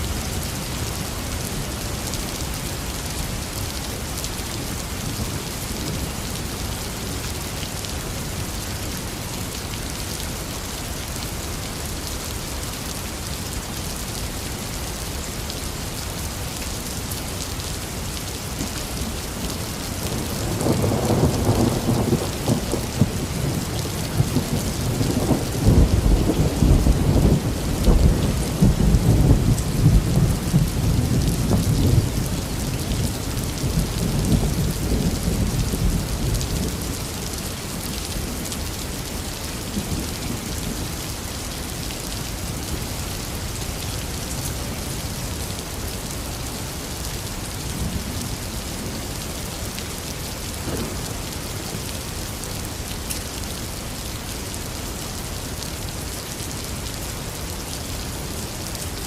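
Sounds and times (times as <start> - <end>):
intense rain: 0.0 - 59.0.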